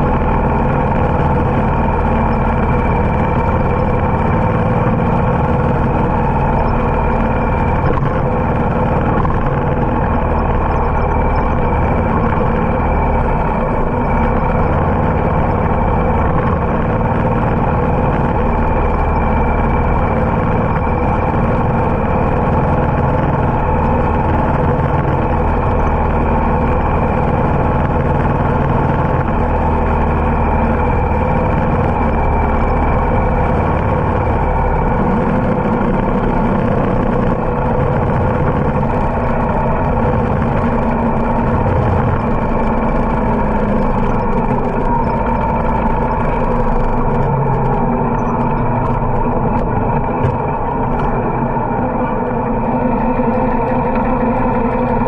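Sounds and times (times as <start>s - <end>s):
motorcycle engine drone: 0.0s - 55.0s
wind noise: 0.0s - 55.0s.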